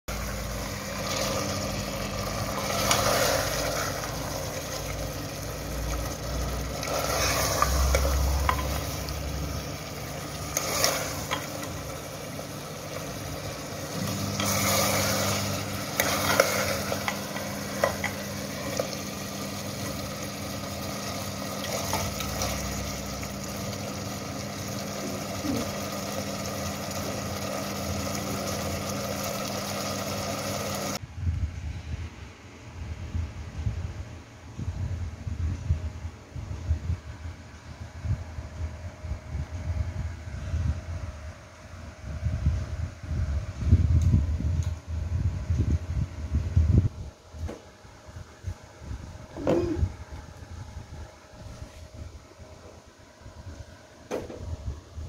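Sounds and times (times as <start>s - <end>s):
low mechanical hum: 0.1s - 55.0s.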